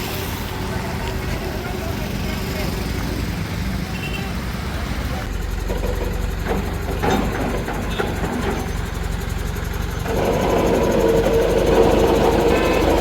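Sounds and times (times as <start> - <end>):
diesel engine running and revving: 0.0 - 13.0.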